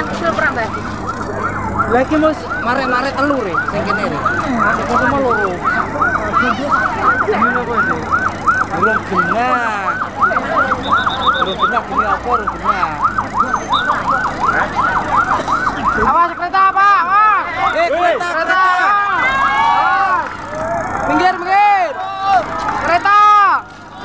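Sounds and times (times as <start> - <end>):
fire truck siren yelping: 0.0 - 24.0.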